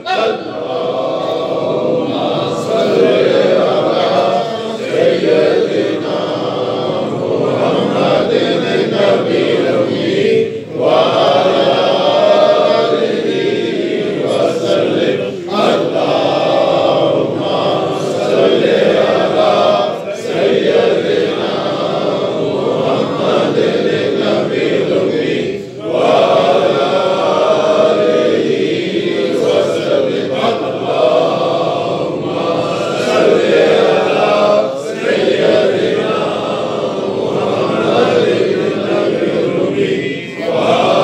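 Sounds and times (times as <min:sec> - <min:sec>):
group of men chanting: 0:00.0 - 0:41.0.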